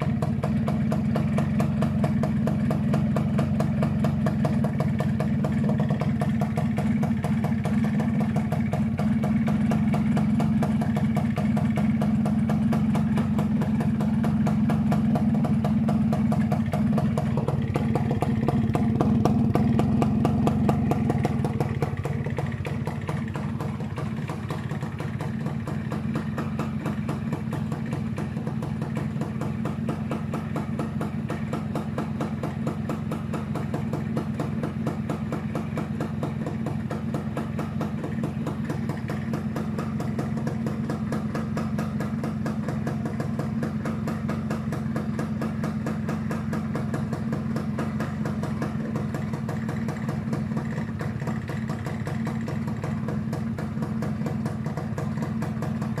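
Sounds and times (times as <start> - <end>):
two-stroke engine idling: 0.0 - 56.0.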